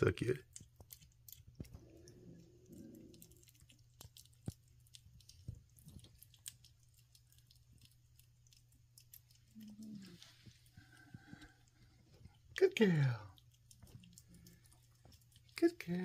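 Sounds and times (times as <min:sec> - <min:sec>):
kitten chewing and licking food: 0:00.0 - 0:16.0
steady low hum: 0:00.1 - 0:16.0.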